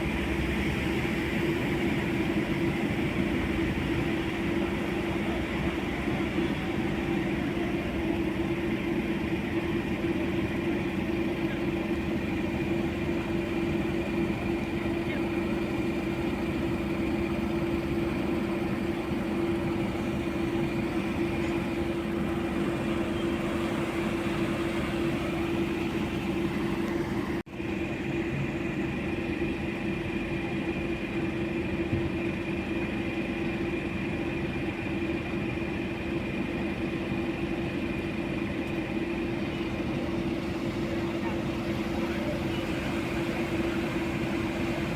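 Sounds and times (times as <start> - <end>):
motor vehicle running drone: 0.0 - 44.9.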